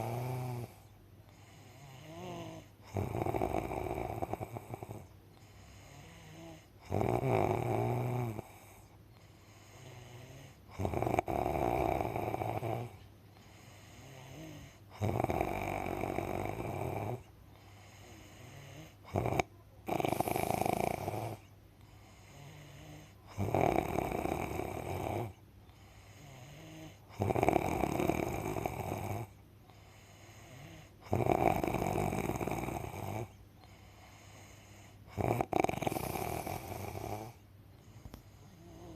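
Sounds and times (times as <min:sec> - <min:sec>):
loud snoring: 0:00.0 - 0:08.9, 0:09.5 - 0:33.4, 0:34.0 - 0:37.4, 0:38.5 - 0:38.9
quiet breathing: 0:00.0 - 0:38.9.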